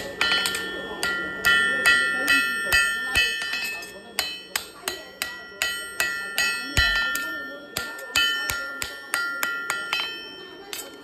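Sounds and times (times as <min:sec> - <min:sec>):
hammer striking metal on anvil: 0:00.0 - 0:11.0.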